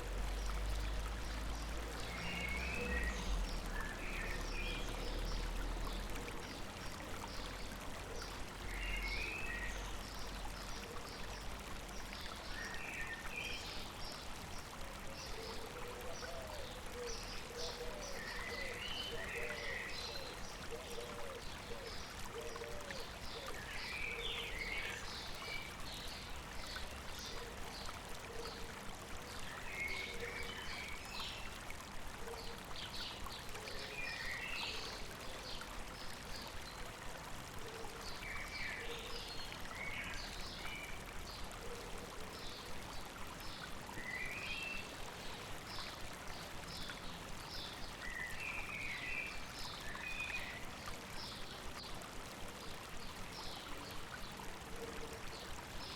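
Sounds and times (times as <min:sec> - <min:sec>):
stream babbling: 0:00.0 - 0:55.9.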